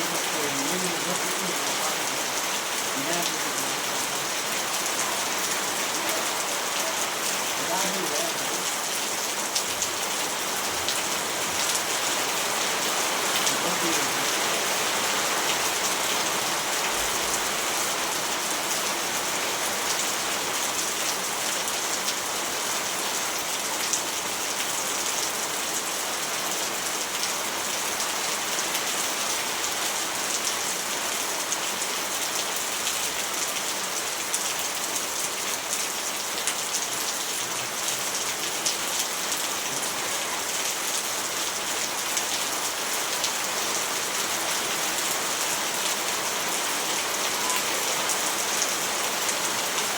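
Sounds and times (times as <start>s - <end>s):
rain on hard surfaces: 0.0s - 49.9s.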